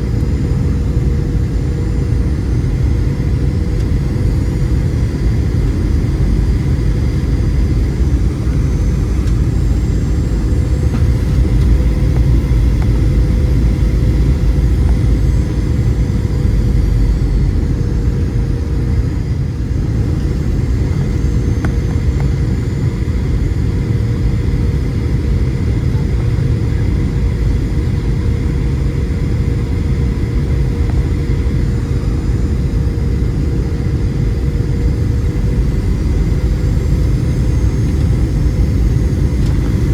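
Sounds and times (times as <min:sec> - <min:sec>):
constant mid-pitched hum: 0:00.0 - 0:39.9
jet engine cabin rumble: 0:00.0 - 0:39.9.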